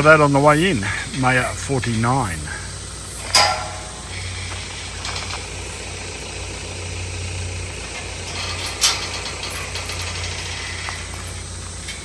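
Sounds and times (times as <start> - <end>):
tyres on gravel road noise: 0.0 - 12.0
van engine hum: 0.0 - 12.0.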